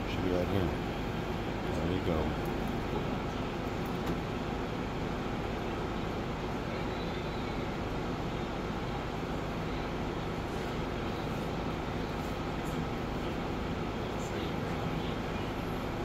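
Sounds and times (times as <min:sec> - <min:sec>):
steady room rumble: 0:00.0 - 0:16.0.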